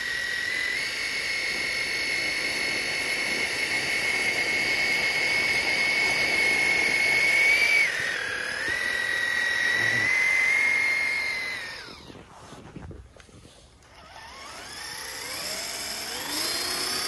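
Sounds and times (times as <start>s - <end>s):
toy car motor whining: 0.0s - 12.3s, 13.8s - 17.0s.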